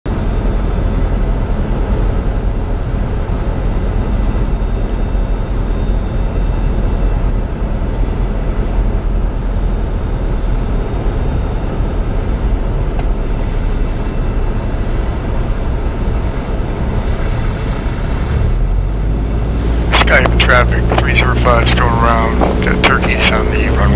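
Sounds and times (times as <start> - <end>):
airplane engine and propeller: 0.1 - 23.9.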